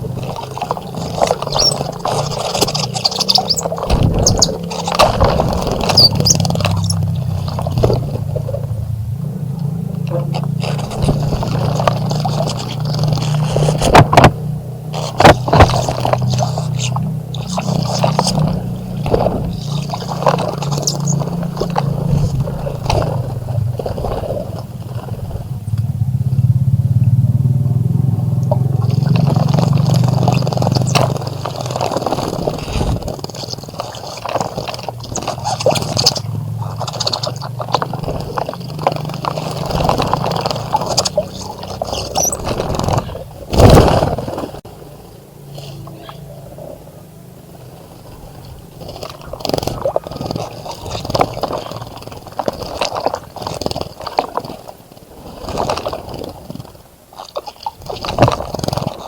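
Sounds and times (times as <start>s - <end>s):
birds splashing in water: 0.0s - 27.2s, 27.8s - 59.0s
low engine drone: 0.0s - 54.0s.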